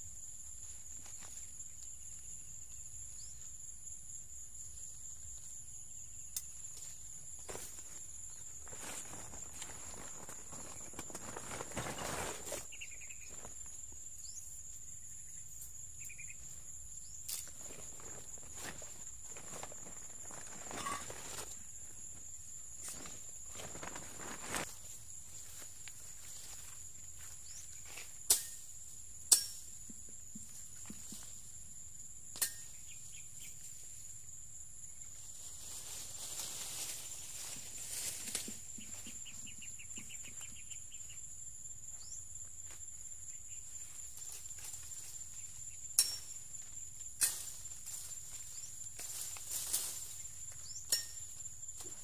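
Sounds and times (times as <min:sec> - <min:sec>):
insect drone: 0:00.0 - 0:52.0.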